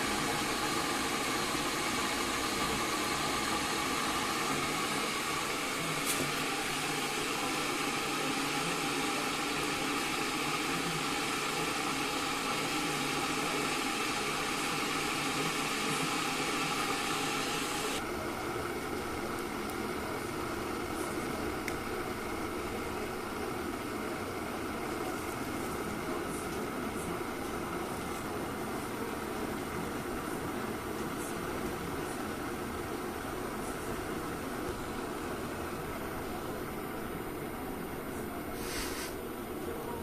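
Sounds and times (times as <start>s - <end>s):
electric kettle boiling water: 0.0s - 40.0s.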